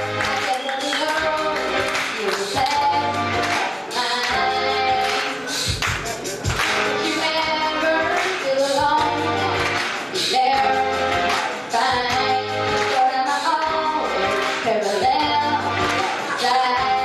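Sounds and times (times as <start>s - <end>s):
musical accompaniment: 0.0s - 17.0s
girl singing into a microphone: 0.2s - 5.4s, 6.9s - 17.0s.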